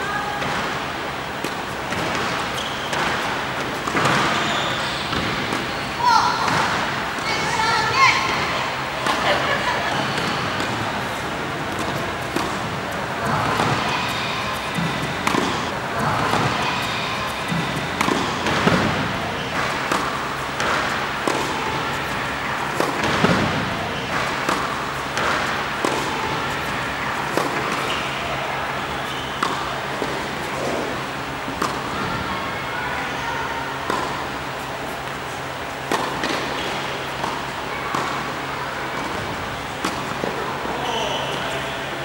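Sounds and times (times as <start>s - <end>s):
tennis balls struck and bouncing: 0.4s - 32.3s, 33.7s - 41.5s.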